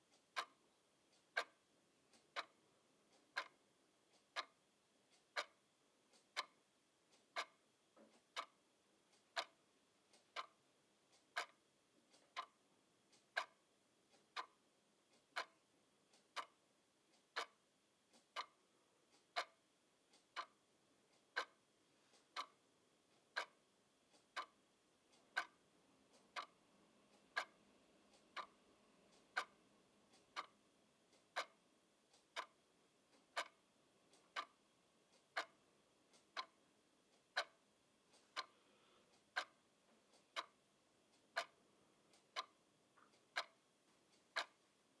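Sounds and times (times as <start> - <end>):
clock ticking: 0.0 - 45.0.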